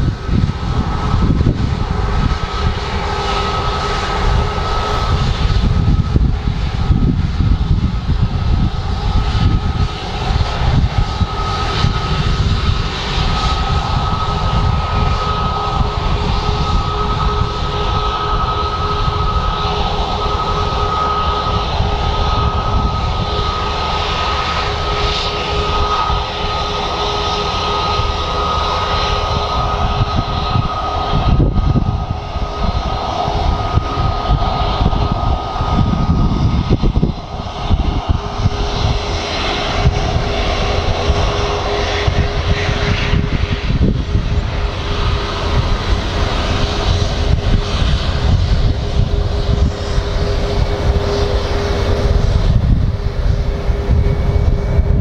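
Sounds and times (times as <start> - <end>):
jet engines whining at low power: 0.0 - 55.0.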